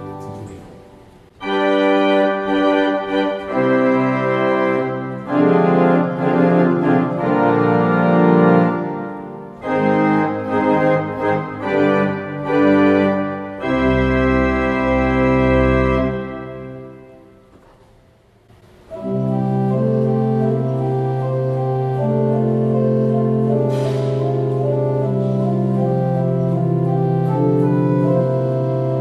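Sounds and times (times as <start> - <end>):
deep organ bass: 0.0 - 17.2, 18.9 - 29.0
pipe organ chords: 0.0 - 29.0.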